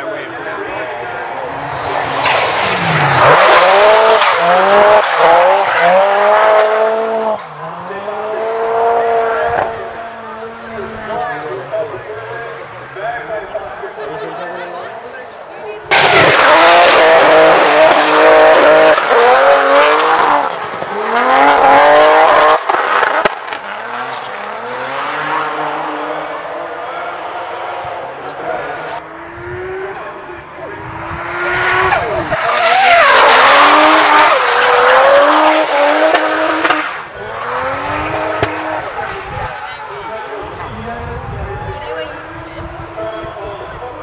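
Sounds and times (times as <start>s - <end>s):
car engine revving: 0.0s - 15.2s, 15.8s - 44.0s.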